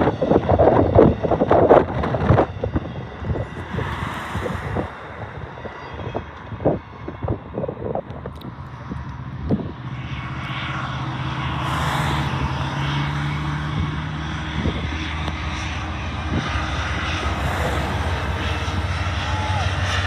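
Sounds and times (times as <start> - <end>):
locomotive engine drone: 0.0 - 20.0.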